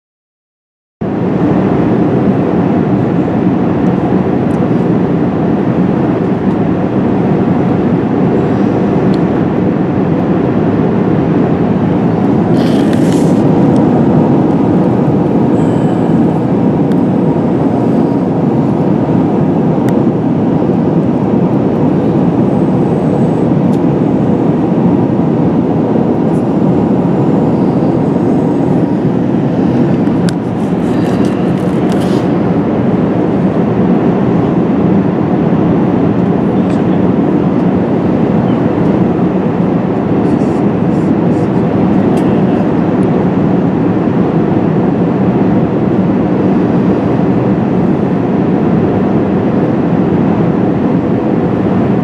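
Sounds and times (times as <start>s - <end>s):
airplane cabin noise: 1.0s - 52.0s.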